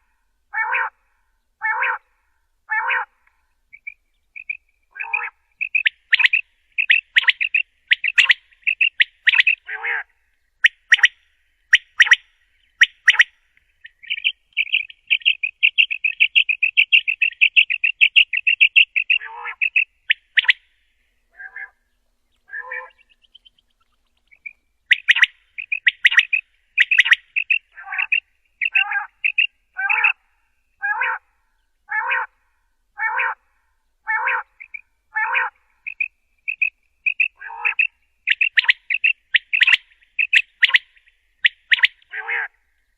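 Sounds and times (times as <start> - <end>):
quail calling: 0.0 - 1.0, 1.6 - 2.1, 2.7 - 20.7, 21.3 - 31.3, 31.9 - 32.4, 33.0 - 33.4, 34.0 - 42.6.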